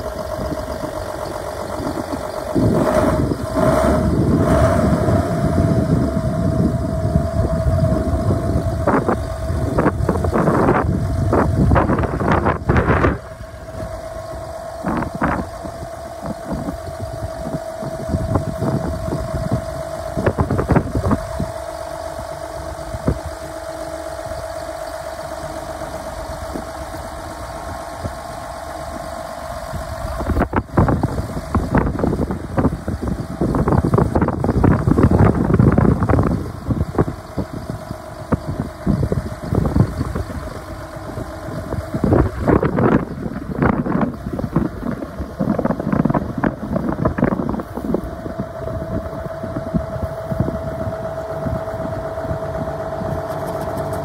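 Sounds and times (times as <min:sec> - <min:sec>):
steady whine: 0:00.0 - 0:54.0
tractor diesel engine idling: 0:00.0 - 0:54.0
wind buffeting microphone: 0:00.0 - 0:54.0.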